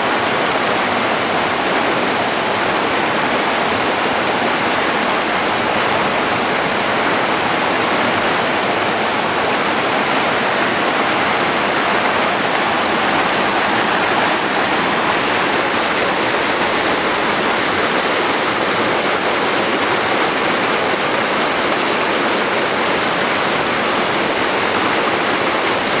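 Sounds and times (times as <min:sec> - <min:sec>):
whitewater roaring over rocks: 0:00.0 - 0:26.0.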